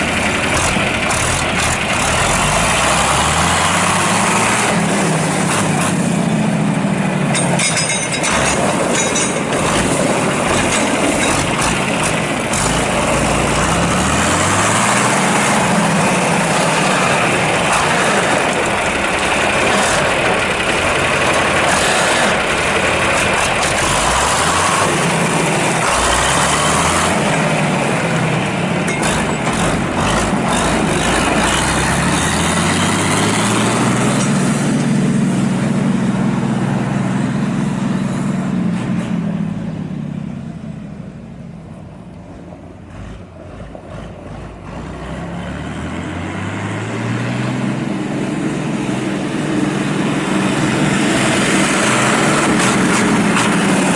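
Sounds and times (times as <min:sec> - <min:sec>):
diesel tractor engine revving: 0:00.0 - 0:53.9.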